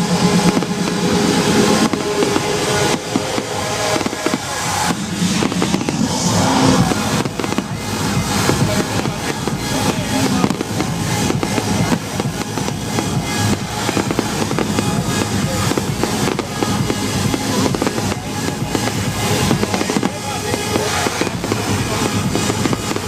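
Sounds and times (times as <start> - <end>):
fireworks bangs and crackles: 0.0 - 23.0
loud music: 0.0 - 23.0.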